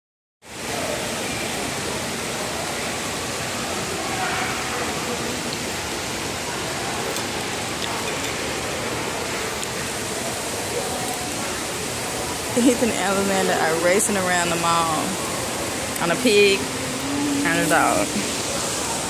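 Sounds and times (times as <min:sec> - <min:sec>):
constant hiss: 0:00.5 - 0:19.0
faint indistinct voices: 0:00.5 - 0:19.0.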